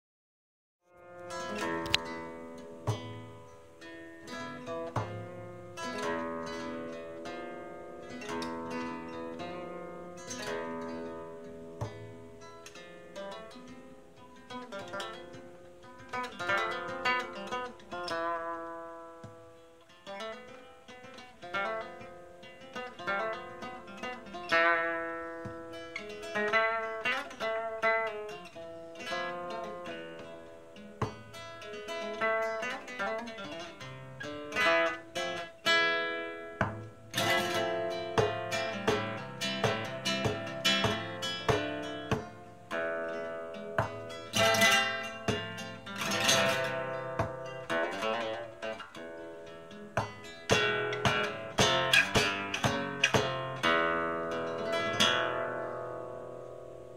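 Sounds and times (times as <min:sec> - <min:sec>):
solo nylon-string guitar: 0:00.8 - 0:56.9.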